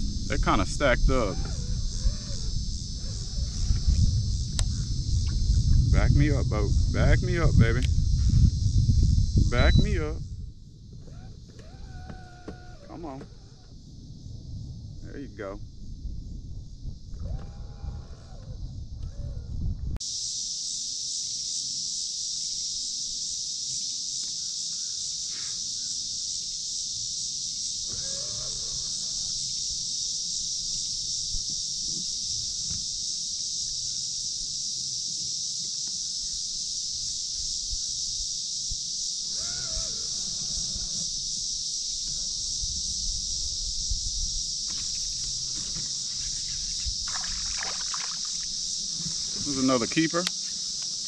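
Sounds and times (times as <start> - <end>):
insect chorus drone: 0.0 - 51.0.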